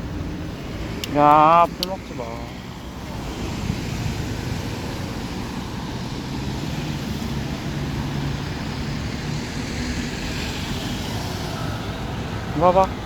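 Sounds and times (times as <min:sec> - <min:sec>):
low engine hum: 0:00.0 - 0:13.0
passing vehicles rushing: 0:00.0 - 0:13.0.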